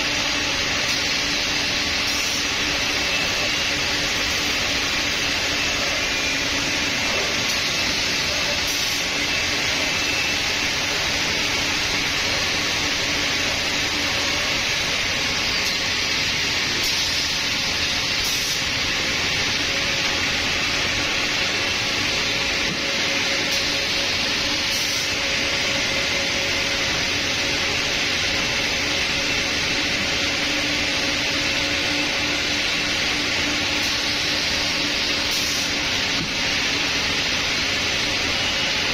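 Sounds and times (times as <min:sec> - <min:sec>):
cnc router running: 0:00.0 - 0:38.9.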